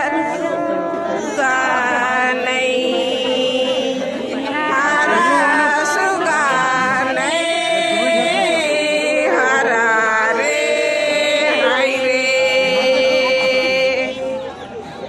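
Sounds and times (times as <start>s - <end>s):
group singing chant-like song: 0.0s - 14.4s.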